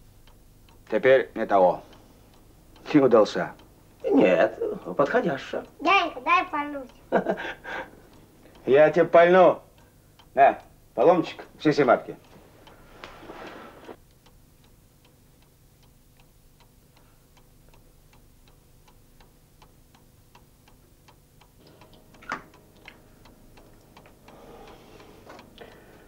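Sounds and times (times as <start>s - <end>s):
clock ticking: 0.0s - 13.1s, 13.9s - 26.0s.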